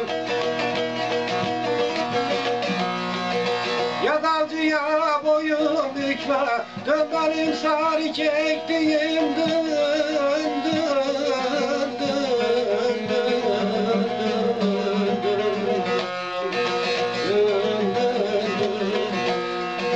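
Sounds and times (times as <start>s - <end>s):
ornamented melody line: 0.0s - 19.9s
plucked string instrument: 0.0s - 19.9s
steady held tones: 0.0s - 19.9s.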